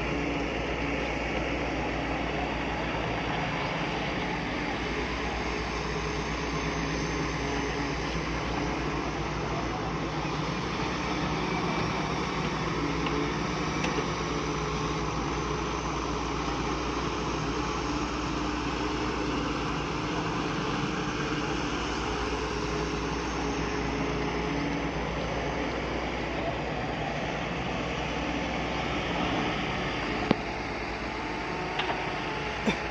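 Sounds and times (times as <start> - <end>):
diesel engine running under work: 0.0 - 32.9.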